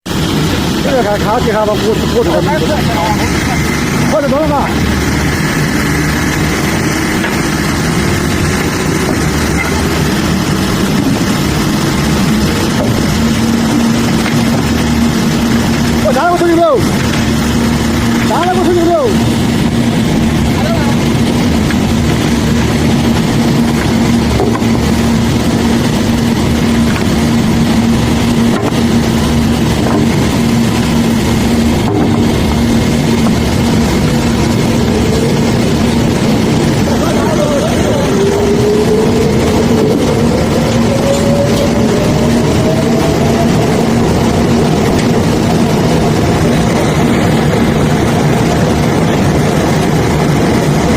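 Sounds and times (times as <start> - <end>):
heavy engine droning: 0.0 - 50.9.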